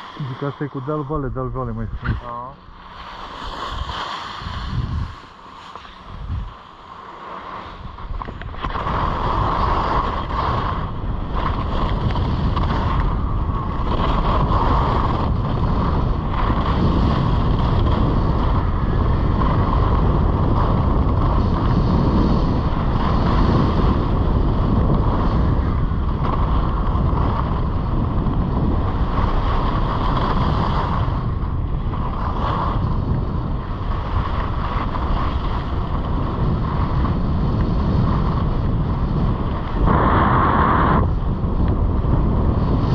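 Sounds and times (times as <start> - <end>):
skis sliding over snow: 0.0 - 42.9
wind buffeting camera microphone: 0.0 - 42.9.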